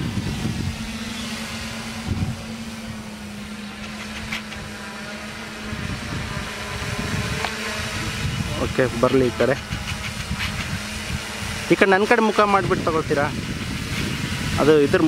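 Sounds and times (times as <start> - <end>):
electric motors and propellers humming: 0.0 - 15.0
wind buffeting microphone: 0.0 - 15.0.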